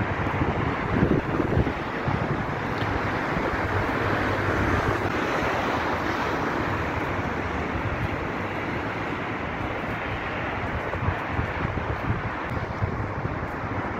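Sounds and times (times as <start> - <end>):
distant traffic hum: 0.0 - 13.9
wind on microphone: 0.0 - 13.9.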